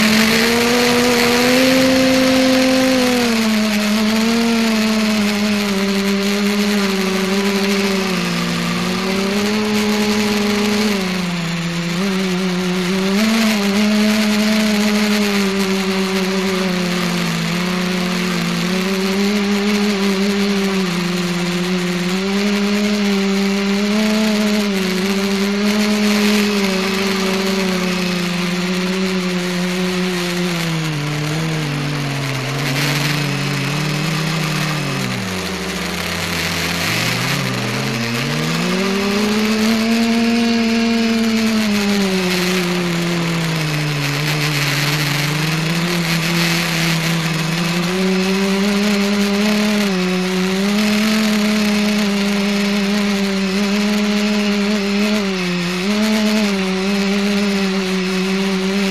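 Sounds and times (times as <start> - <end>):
drone motors and propellers buzzing: 0.0 - 58.9.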